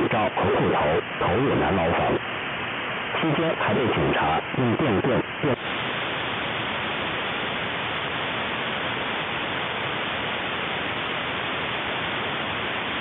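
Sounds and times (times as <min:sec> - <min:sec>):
shortwave radio static hiss: 0:00.0 - 0:13.0.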